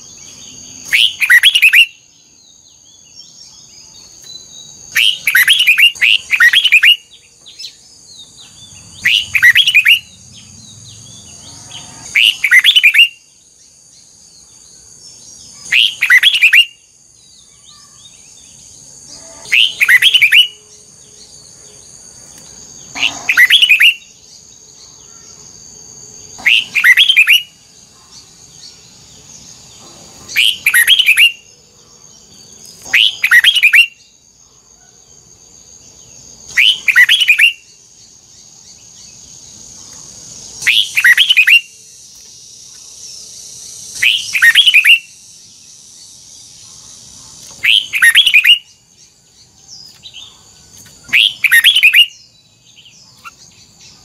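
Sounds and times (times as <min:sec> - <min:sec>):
bird singing loud phrases: 0:00.0 - 0:54.0.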